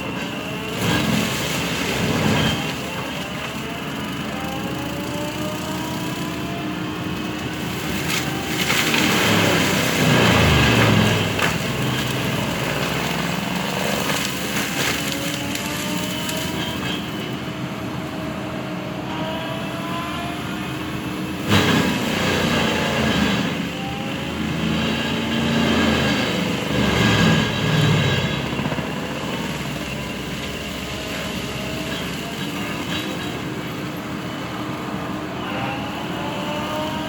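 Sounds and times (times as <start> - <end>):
skid-steer engine running: 0.0 - 37.0.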